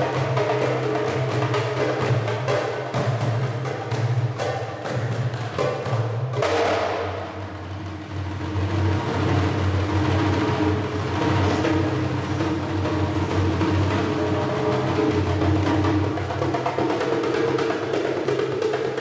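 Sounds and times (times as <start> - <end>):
goblet drum solo: 0.0 - 19.0.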